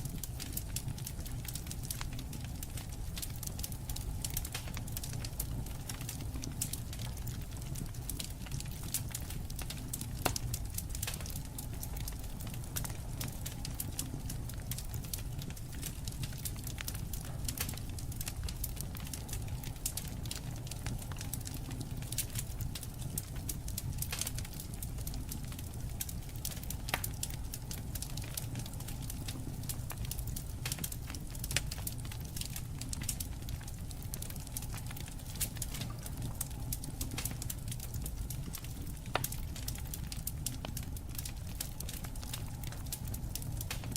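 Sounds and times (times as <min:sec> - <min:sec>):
wood fire crackling: 0:00.0 - 0:43.9
sharp pops from fire: 0:00.1 - 0:43.9.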